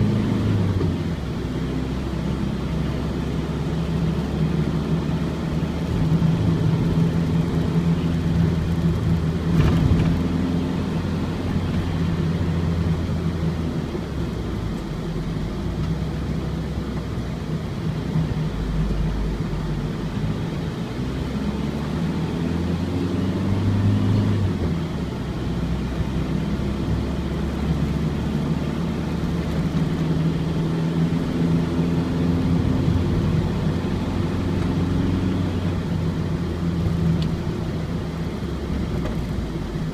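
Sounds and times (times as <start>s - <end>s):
diesel van engine driving: 0.0s - 39.9s
tyre and road noise: 0.0s - 39.9s.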